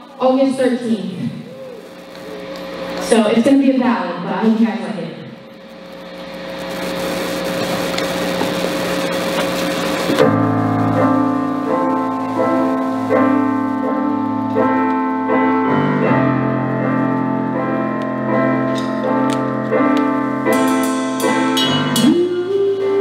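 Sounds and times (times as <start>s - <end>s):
stage piano chords: 0.0s - 23.0s.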